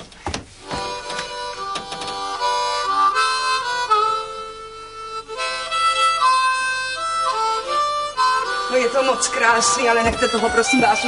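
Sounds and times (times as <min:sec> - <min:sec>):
harmonica playing a tune: 0:00.6 - 0:11.0.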